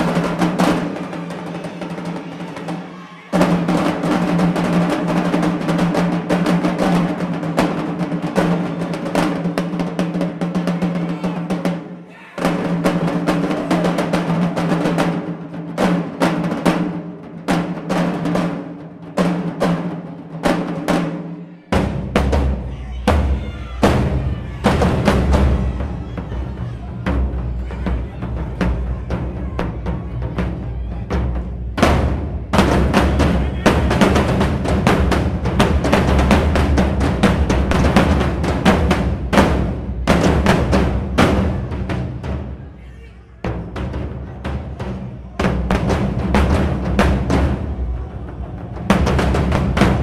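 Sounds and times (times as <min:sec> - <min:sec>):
marching drumline cadence: 0:00.0 - 0:50.0.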